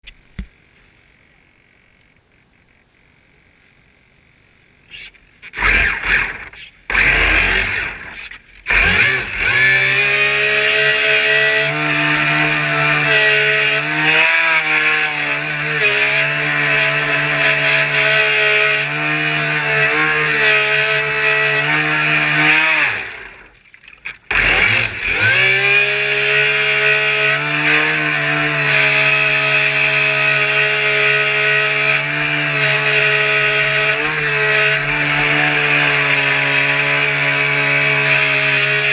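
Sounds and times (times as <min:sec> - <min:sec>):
small buzzing boat motor: 0:00.2 - 0:38.9.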